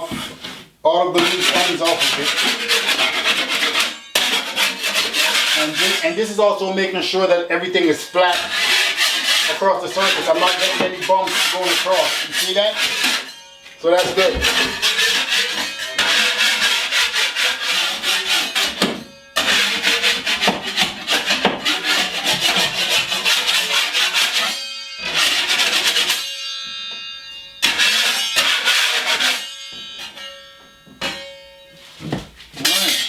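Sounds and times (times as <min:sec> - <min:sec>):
scraping strokes on drywall: 0:00.0 - 0:26.3, 0:27.6 - 0:30.4.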